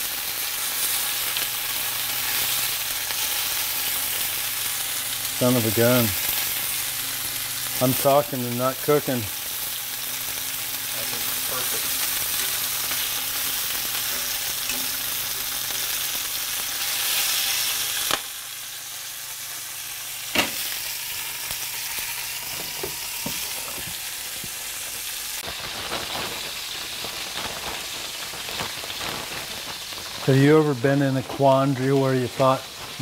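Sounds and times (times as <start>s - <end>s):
meat sizzling in oil: 0.0s - 33.0s.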